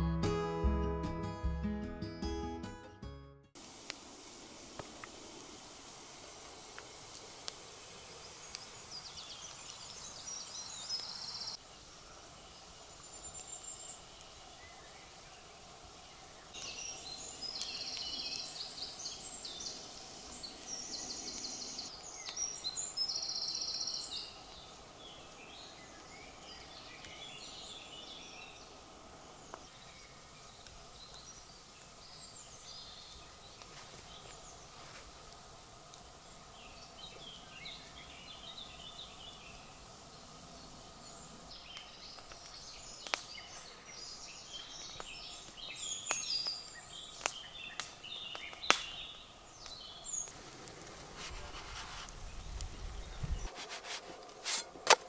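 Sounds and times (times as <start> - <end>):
small birds singing: 7.6 - 50.5, 51.3 - 54.4.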